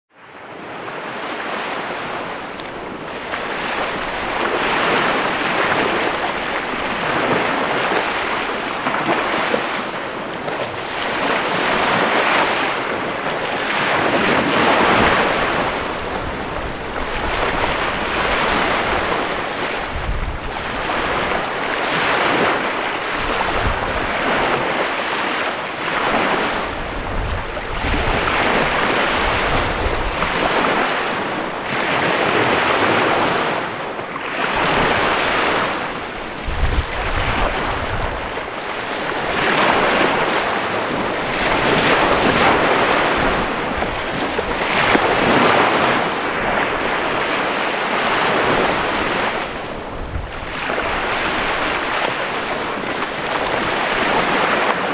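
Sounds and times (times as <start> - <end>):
waves washing up a beach: 0.1 - 54.9
wind buffeting microphone: 0.7 - 54.9.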